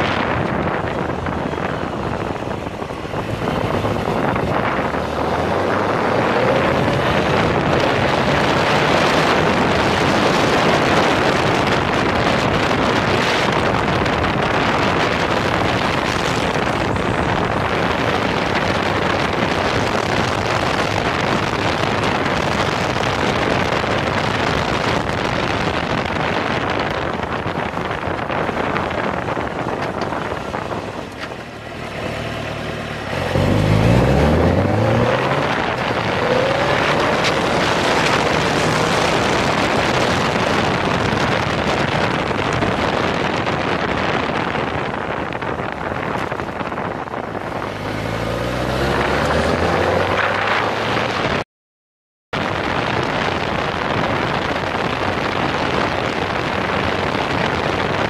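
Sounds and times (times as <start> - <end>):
wind on microphone: 0.0 - 51.4, 52.4 - 58.0.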